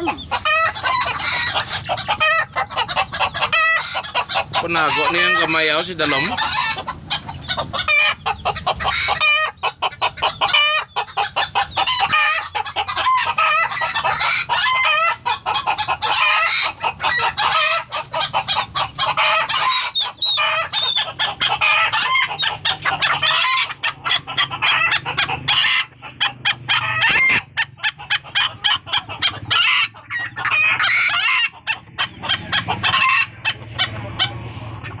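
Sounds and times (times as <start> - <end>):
chickens clucking: 0.0 - 35.0
roosters crowing: 0.0 - 35.0.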